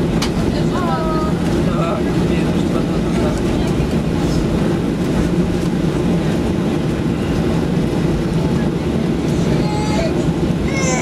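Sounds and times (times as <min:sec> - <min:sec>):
aircraft rolling rumble: 0:00.0 - 0:11.0
jet engines humming: 0:00.0 - 0:11.0.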